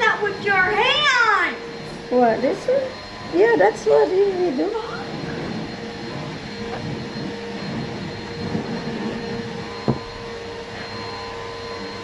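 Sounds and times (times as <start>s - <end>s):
faint held tone: 0.0s - 12.0s
room hum: 0.0s - 12.0s.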